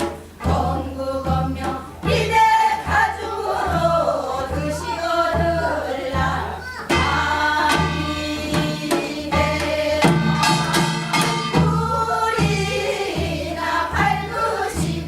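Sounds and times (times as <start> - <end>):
folk song singing: 0.0 - 15.0
sharp drum strokes: 0.0 - 15.0.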